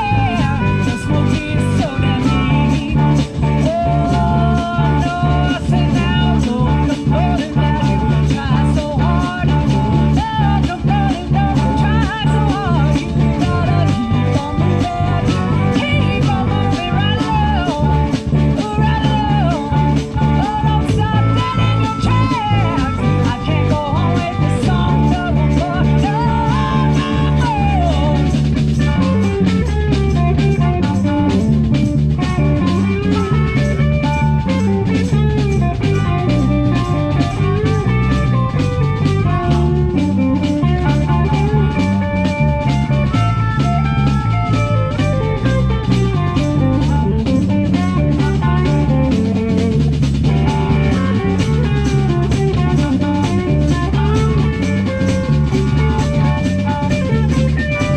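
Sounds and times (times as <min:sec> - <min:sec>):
blues rock band playing: 0:00.0 - 0:57.9
electric guitar lead line: 0:00.0 - 0:57.9.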